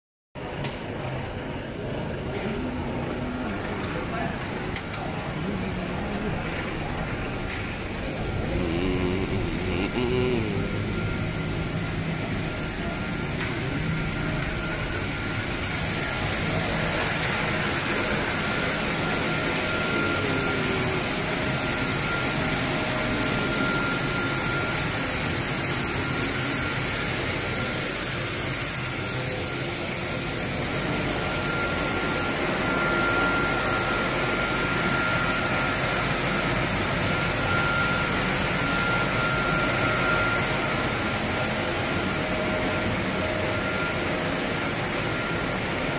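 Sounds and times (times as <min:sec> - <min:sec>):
machinery rushing hum: 0:00.4 - 0:45.9.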